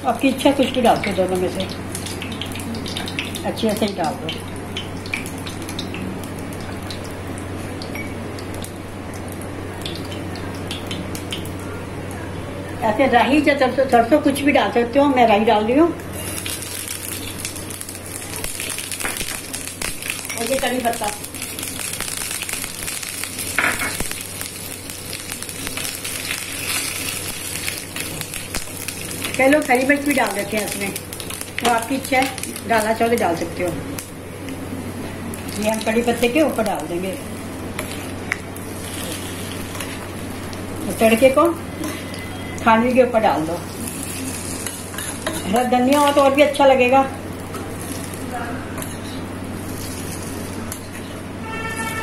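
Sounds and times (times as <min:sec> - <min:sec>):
leaves and seeds sizzling in hot oil: 0:00.0 - 0:11.5, 0:16.1 - 0:52.0.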